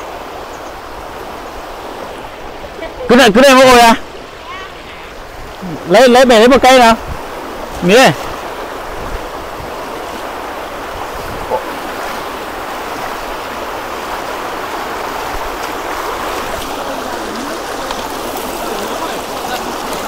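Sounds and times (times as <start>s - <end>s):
stream rushing: 0.0s - 20.0s.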